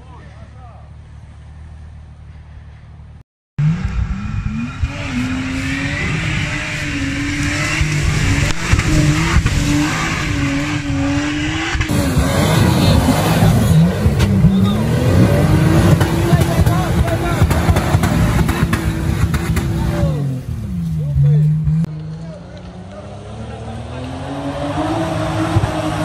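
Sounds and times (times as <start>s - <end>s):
engine revving: 3.6s - 26.0s.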